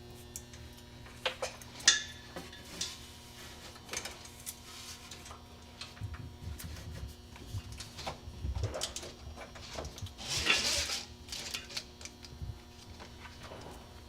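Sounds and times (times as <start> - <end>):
clicks and rustles of wiring: 0.2 - 14.0.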